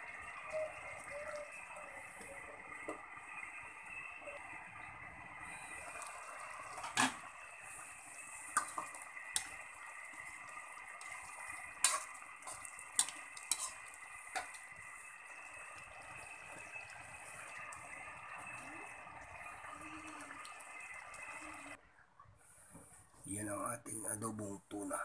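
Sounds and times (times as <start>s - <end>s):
simmering pot hissing: 0.0s - 21.8s.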